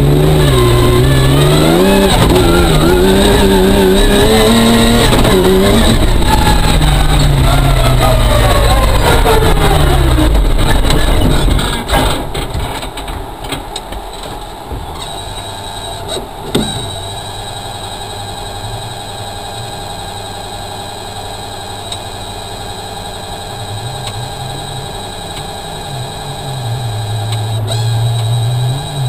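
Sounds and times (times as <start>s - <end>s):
rally car engine idling: 0.0s - 29.0s.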